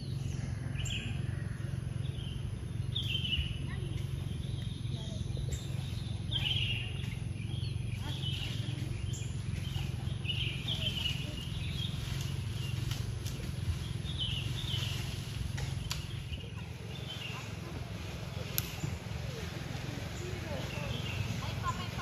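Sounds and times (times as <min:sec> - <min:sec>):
birds chirping: 0:00.0 - 0:22.0
steady low rumble: 0:00.0 - 0:22.0.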